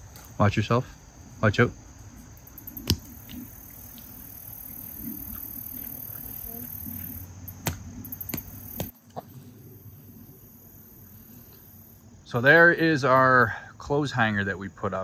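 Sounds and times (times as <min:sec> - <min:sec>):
crickets and insects chirring: 0:00.0 - 0:15.0.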